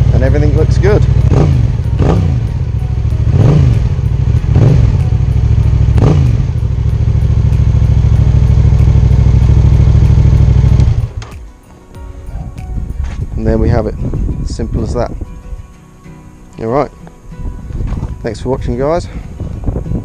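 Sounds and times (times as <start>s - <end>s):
motorcycle engine idling and revving: 0.0s - 15.1s, 17.5s - 20.0s.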